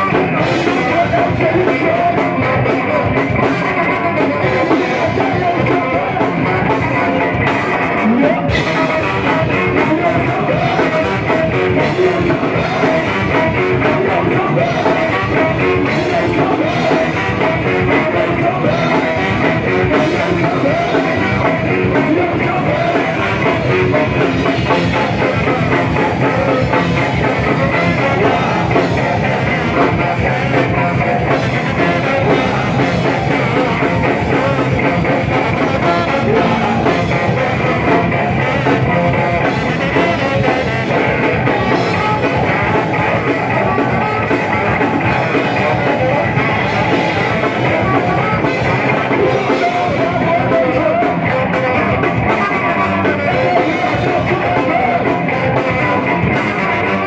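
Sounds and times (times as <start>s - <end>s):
drums: 0.0s - 57.0s
guitar: 0.0s - 57.0s
live band playing: 0.0s - 57.0s
person singing: 0.0s - 57.0s.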